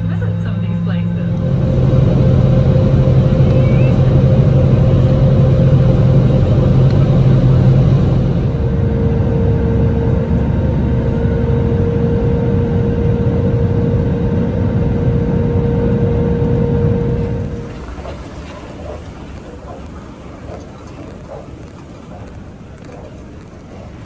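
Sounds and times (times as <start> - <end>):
cabin hum: 0.0 - 24.0
jet engine and airflow roar: 0.0 - 24.0.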